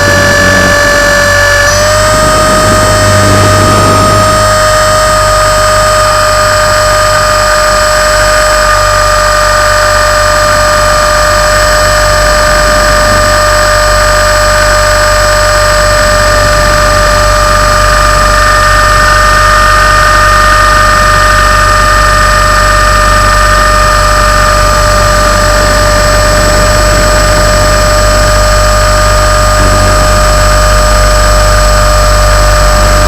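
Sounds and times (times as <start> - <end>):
high whine of motor and gears: 0.0 - 33.0
rush of helicopter rotors: 0.0 - 33.0.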